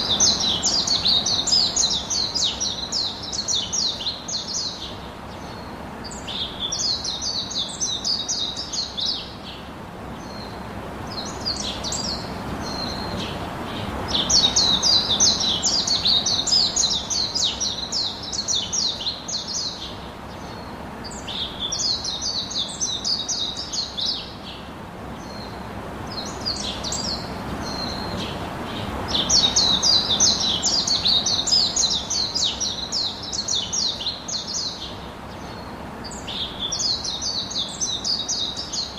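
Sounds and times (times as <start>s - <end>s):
songbird singing: 0.0s - 38.9s
steady background hiss: 0.0s - 38.9s.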